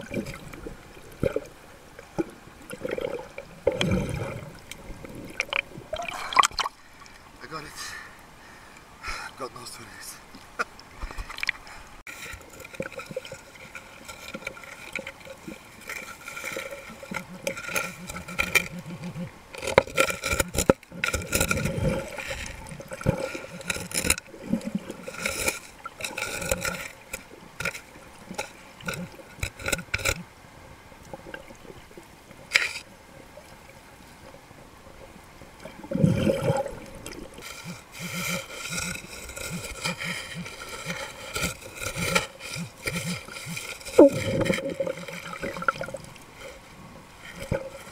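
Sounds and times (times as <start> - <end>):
underwater water sloshing: 0.0 - 47.9.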